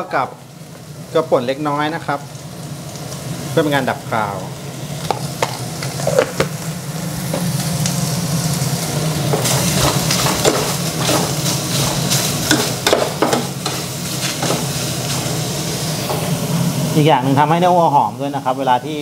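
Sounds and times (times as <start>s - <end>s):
meat sizzling in a pot: 0.0s - 19.0s.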